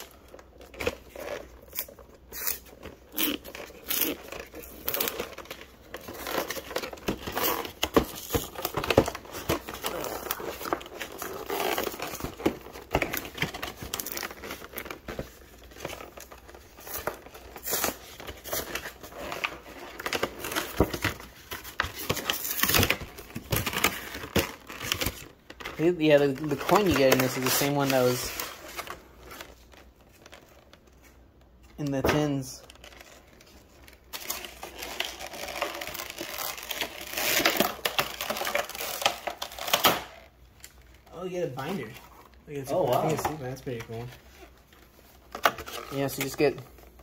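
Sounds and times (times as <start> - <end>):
cardboard crinkling and tearing: 0.0 - 31.0, 32.2 - 47.0.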